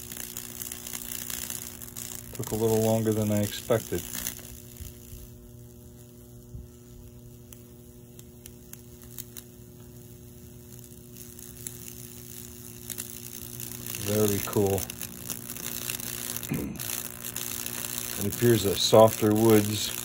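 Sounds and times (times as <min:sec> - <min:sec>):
transformer electrical hum: 0:00.0 - 0:20.0.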